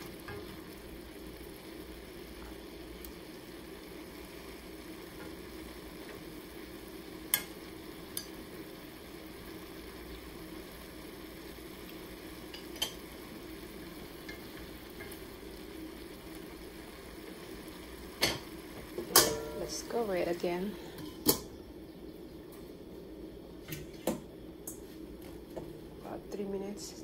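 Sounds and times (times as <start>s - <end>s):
vegetables sizzling in a skillet: 0.0s - 27.0s.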